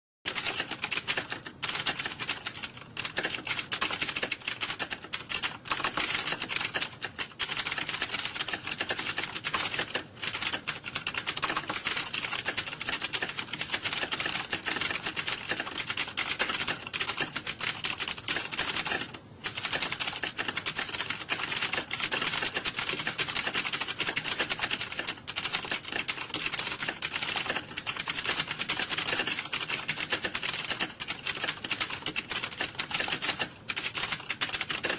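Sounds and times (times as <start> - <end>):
keyboards typing clatter: 0.3 - 34.9.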